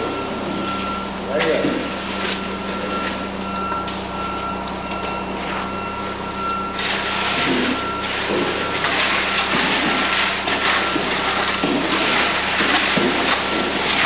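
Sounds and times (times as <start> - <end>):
diesel engine running: 0.0 - 14.0
truck reversing alarm beeping: 0.0 - 14.0.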